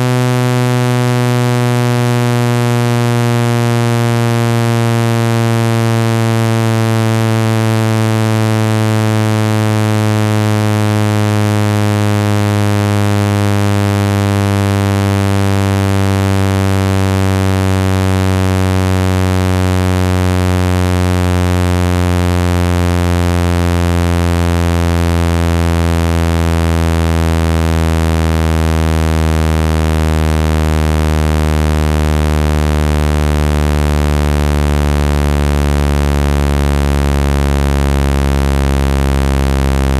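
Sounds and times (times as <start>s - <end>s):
electronic low buzzing tone: 0.0s - 39.9s.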